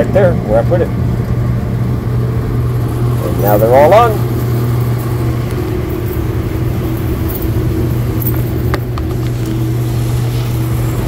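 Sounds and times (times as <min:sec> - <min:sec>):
condenser fans humming: 0:00.0 - 0:11.0.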